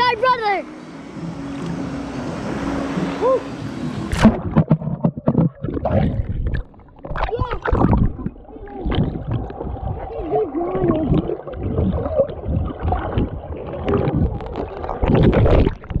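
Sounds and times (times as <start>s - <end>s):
muffled underwater churning: 0.0s - 16.0s
water surge: 0.0s - 16.0s.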